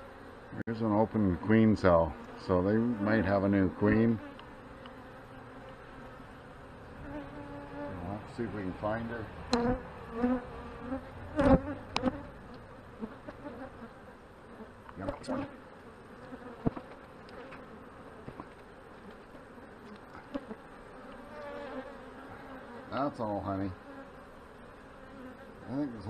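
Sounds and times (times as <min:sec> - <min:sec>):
bees buzzing: 0:00.0 - 0:26.0
bees flying close by: 0:00.0 - 0:26.0.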